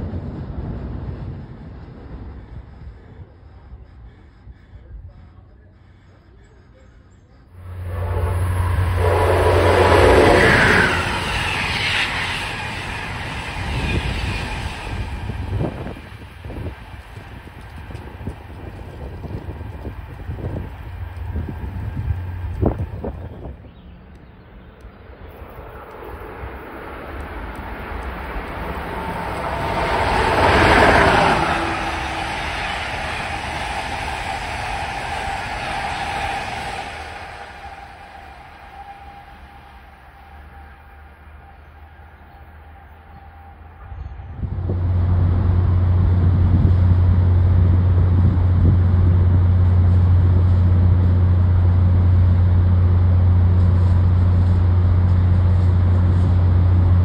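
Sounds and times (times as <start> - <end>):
passenger train passing: 0.0 - 57.0.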